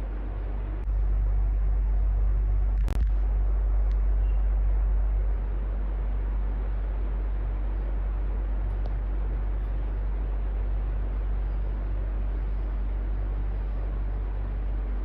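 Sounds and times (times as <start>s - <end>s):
electric fan running: 0.0s - 15.0s.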